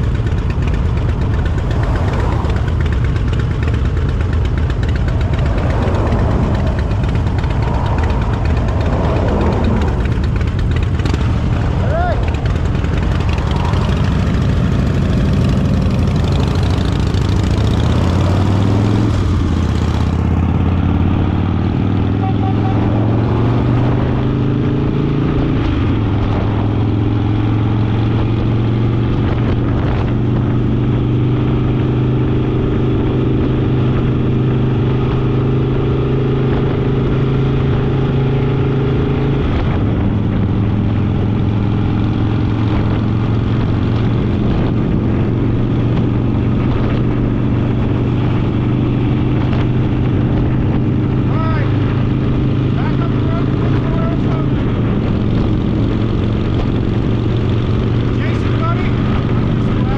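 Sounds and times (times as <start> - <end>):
motorcycle engine under way: 0.0 - 59.9
road noise rush: 0.0 - 59.9.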